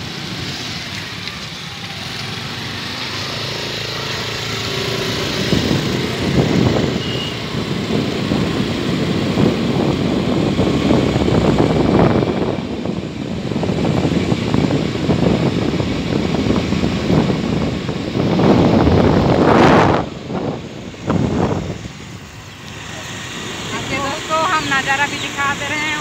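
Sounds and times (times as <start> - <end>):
road noise: 0.0 - 26.0
scooter engine: 0.0 - 26.0
wind buffeting microphone: 3.4 - 26.0.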